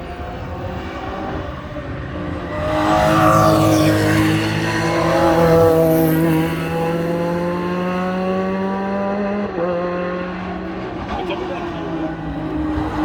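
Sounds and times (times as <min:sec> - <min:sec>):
engine revving and shifting up: 0:00.0 - 0:13.0
race car passing: 0:00.0 - 0:13.0.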